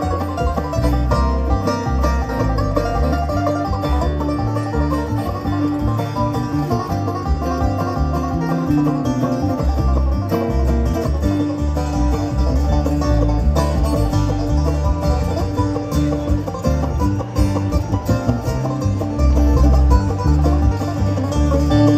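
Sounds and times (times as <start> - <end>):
banjo picking: 0.0 - 21.9
bluegrass band playing: 0.0 - 21.9.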